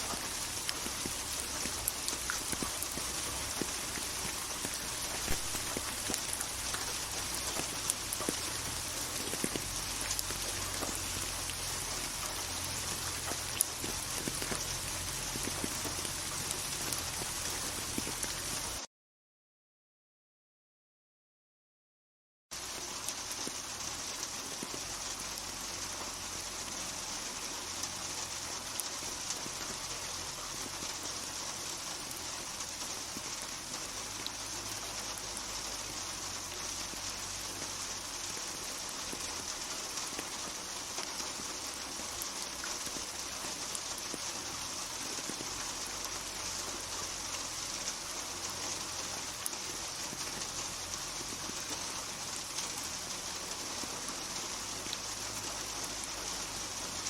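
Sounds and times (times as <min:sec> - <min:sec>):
steady rain hiss: 0:00.0 - 0:18.9, 0:22.6 - 0:57.0.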